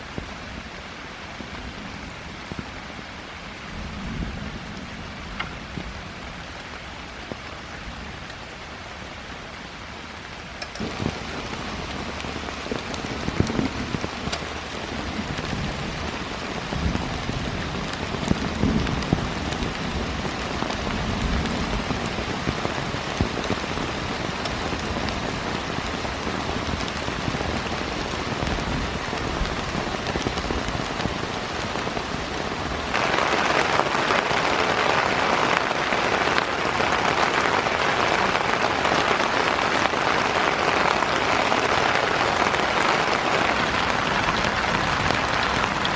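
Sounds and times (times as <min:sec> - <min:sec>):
heavy rain falling: 0:00.0 - 0:45.9
knocks of raindrops: 0:00.0 - 0:45.9.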